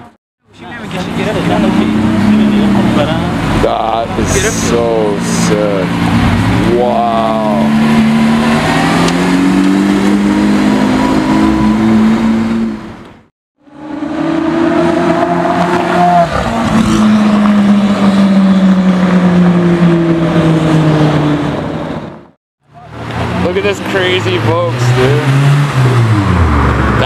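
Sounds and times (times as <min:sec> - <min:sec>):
sports car engine revving: 0:00.8 - 0:12.9, 0:13.7 - 0:22.1, 0:22.9 - 0:27.0.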